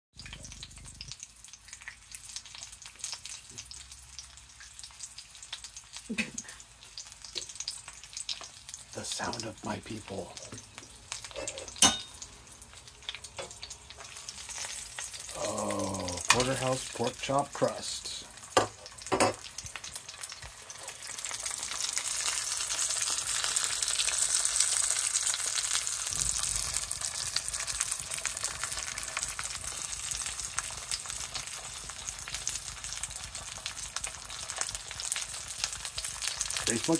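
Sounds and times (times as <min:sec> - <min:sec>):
meat sizzling in skillet: 0:00.2 - 0:36.9.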